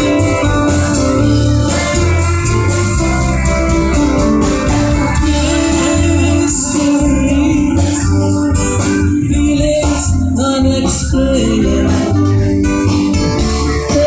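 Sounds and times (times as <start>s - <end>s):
live band music: 0.0s - 14.0s
person singing: 0.0s - 14.0s.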